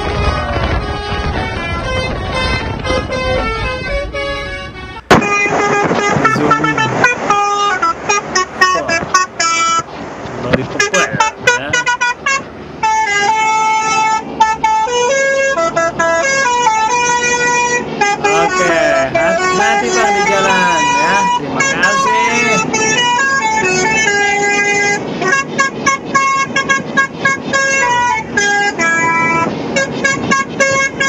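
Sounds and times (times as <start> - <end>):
multi-tone musical truck horn: 0.0 - 9.9, 10.7 - 31.0.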